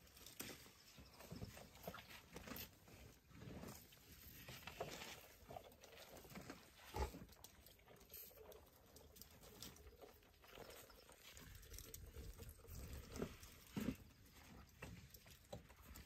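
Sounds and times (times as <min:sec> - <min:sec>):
elephants feeding and moving: 0:00.0 - 0:16.0.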